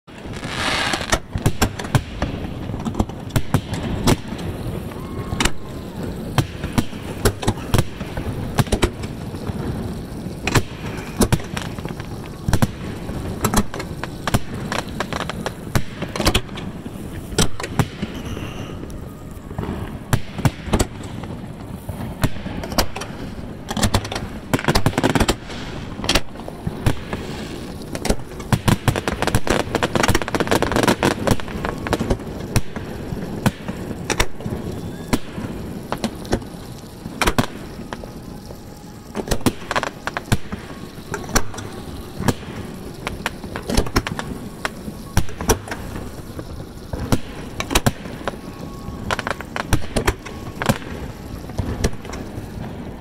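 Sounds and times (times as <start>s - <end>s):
fireworks bangs: 0.1s - 53.0s.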